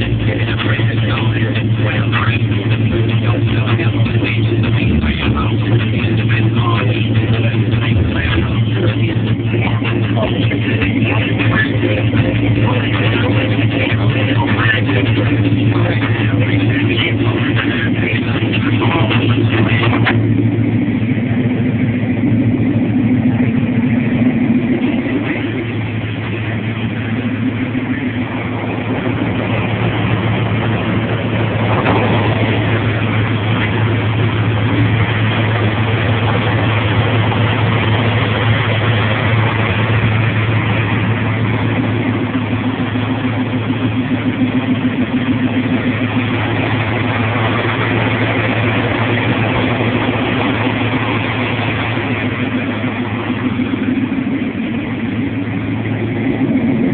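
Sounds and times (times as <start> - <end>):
pickup engine running: 0.0 - 56.9.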